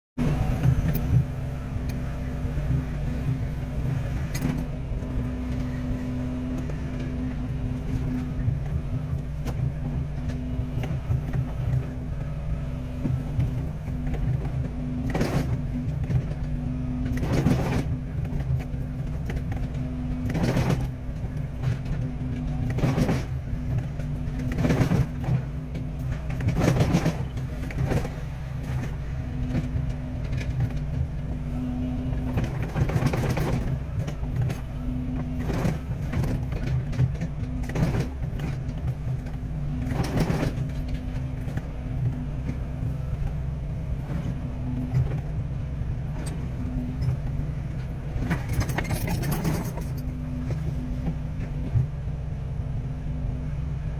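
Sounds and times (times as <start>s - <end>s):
excavator diesel engine: 0.2s - 53.9s.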